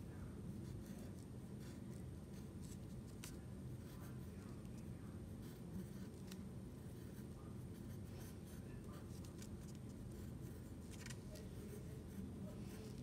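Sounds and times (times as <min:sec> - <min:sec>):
low background hum: 0:00.0 - 0:13.0
pencil scratching on paper: 0:00.6 - 0:04.6, 0:05.3 - 0:13.0.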